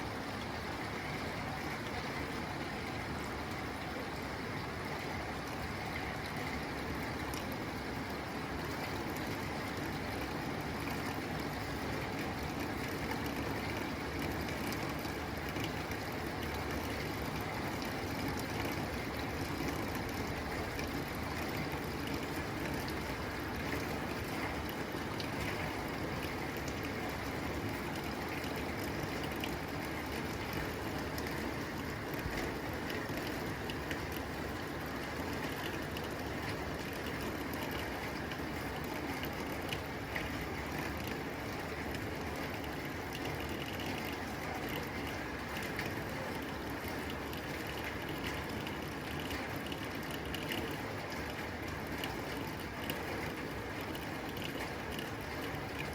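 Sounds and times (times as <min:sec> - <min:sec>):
rain on a tin roof: 0:00.0 - 0:55.9.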